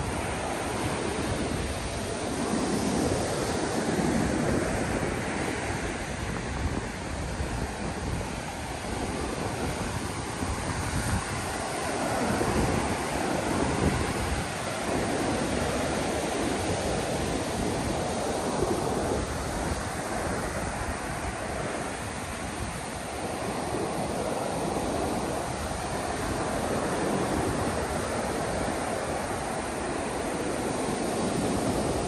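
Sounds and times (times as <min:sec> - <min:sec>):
ocean surf on sand: 0:00.0 - 0:32.0
wind buffeting microphone: 0:00.0 - 0:32.0.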